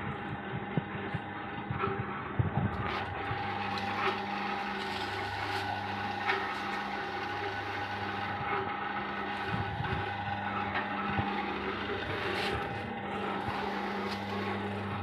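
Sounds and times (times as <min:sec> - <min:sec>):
granulator machine humming: 0:00.0 - 0:15.0.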